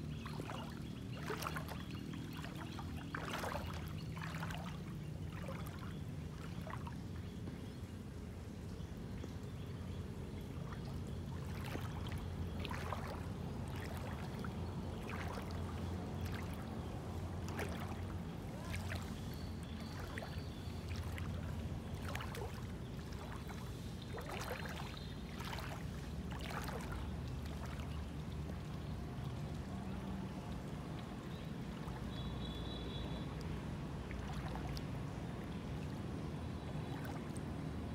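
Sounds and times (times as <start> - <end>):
water sloshing and splashing: 0.0 - 8.0, 9.0 - 37.9.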